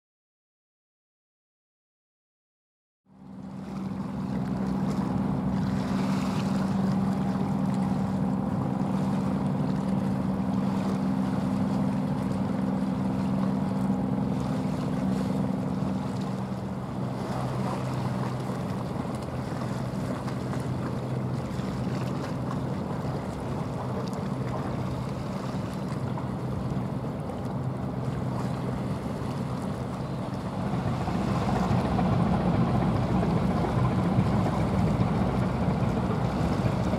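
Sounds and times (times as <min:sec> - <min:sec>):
ship engine drone: 0:03.1 - 0:36.9
water rushing at bow: 0:03.1 - 0:36.9.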